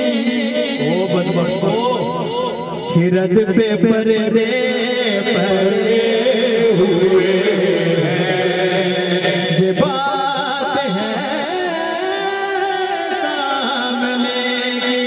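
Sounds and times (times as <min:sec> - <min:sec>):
man singing through loudspeakers: 0:00.0 - 0:15.0.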